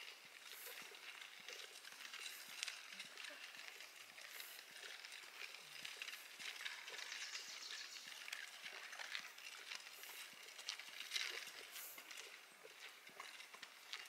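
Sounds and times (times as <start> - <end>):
footsteps on forest trail: 0.0 - 14.0
steady high-pitched hiss: 0.0 - 14.0.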